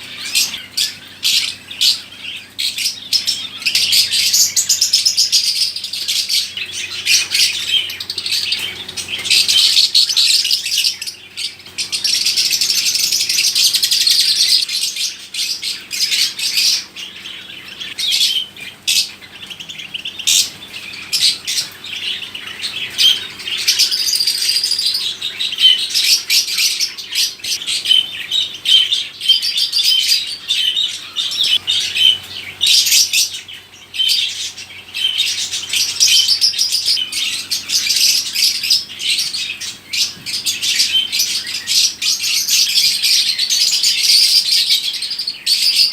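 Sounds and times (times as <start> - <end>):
caged birds chirping: 0.0 - 45.9.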